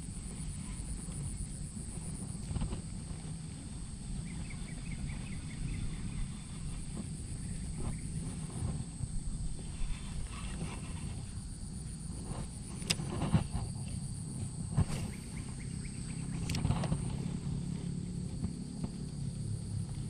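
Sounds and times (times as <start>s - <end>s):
high thin whine: 0.0s - 18.8s
steady low rumble: 0.0s - 20.0s.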